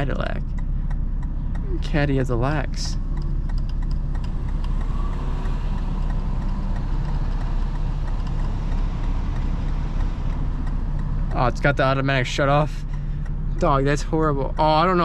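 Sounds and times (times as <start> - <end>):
car engine drone in cabin: 0.0 - 15.0
road noise: 0.0 - 15.0.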